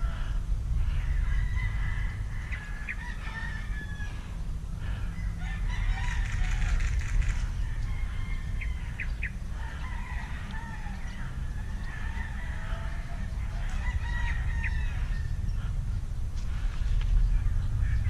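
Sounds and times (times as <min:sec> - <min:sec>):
rooster crowing: 0:00.0 - 0:15.8
low rumble: 0:00.0 - 0:18.0.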